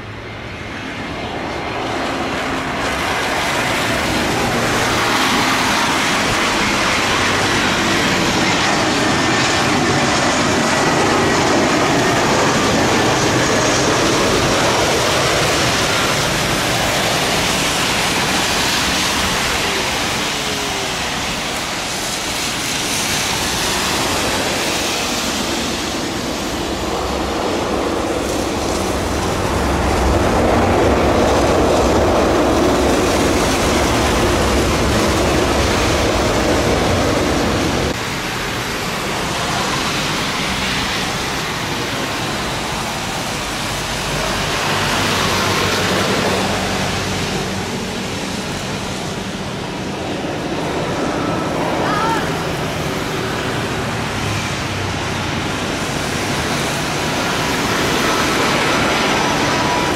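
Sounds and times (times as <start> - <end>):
jet airliner landing: 0.0 - 59.9.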